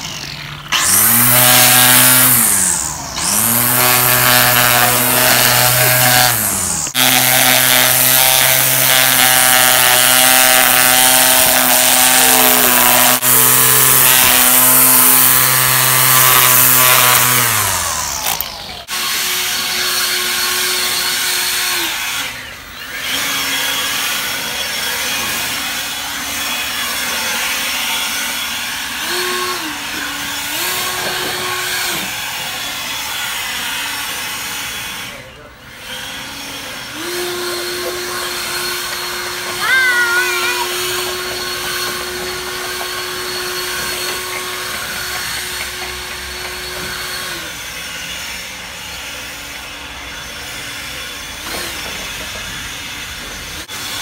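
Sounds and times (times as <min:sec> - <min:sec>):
power tool running: 0:00.0 - 0:54.0.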